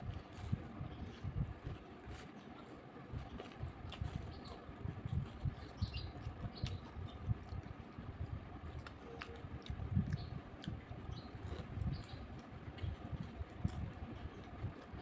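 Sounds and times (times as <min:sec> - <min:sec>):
crunchy snack chewing: 0:00.0 - 0:15.0.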